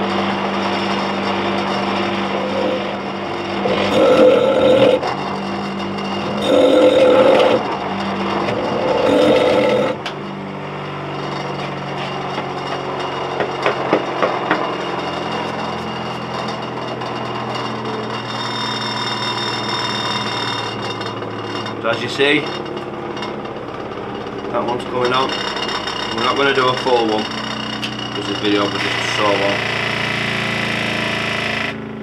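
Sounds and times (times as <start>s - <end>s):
bench grinder grinding metal: 0.0s - 32.0s
grinder humming freely: 0.0s - 32.0s.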